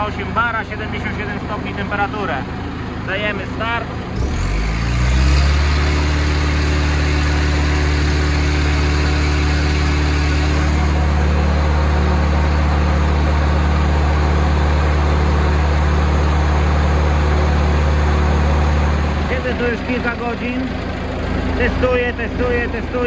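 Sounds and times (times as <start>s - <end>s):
diesel engine running at high speed: 0.0s - 23.0s.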